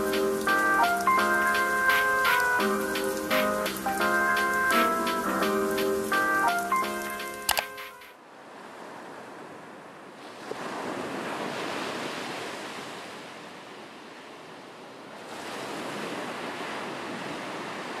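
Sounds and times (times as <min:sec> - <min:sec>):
waves breaking on beach: 0:00.0 - 0:07.0, 0:08.2 - 0:18.0.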